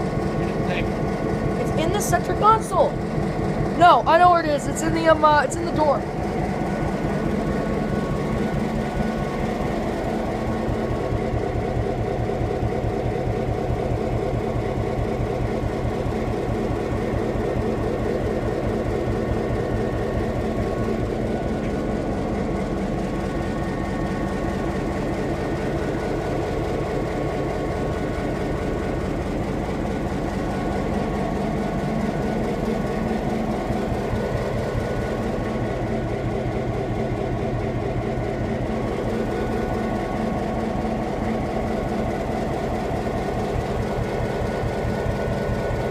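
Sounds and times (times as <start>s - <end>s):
locomotive diesel engine pulsing: 0.0s - 45.9s
steady whining tones: 0.0s - 45.9s.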